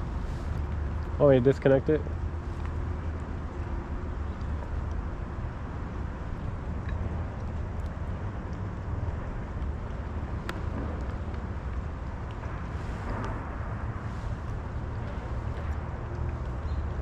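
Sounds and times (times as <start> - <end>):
engine rumbling: 0.0 - 17.0
wind noise on microphone: 2.1 - 17.0.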